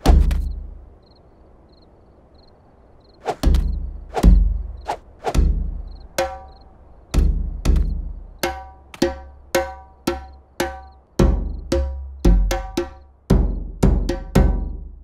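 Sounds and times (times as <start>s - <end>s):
cricket chirps: 0.0s - 15.0s.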